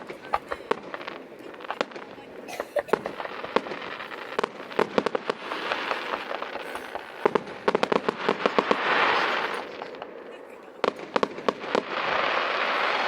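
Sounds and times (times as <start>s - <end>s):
fireworks crackling hiss: 0.0s - 13.0s
fireworks popping and crackling: 0.0s - 13.0s.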